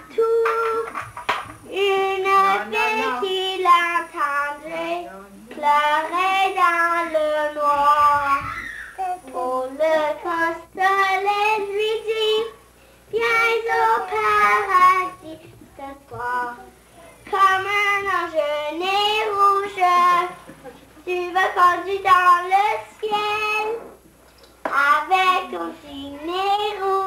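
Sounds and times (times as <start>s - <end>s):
young girl singing: 0.0s - 20.4s, 21.0s - 24.0s, 24.7s - 27.0s.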